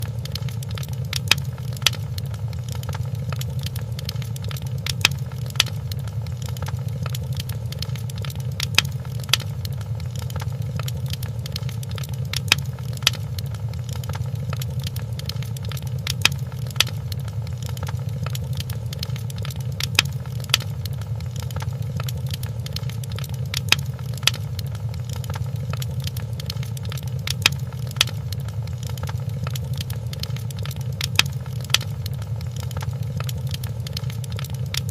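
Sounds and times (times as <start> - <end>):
fire sharp pops: 0.0 - 34.9
wood fire crackling: 0.0 - 34.9.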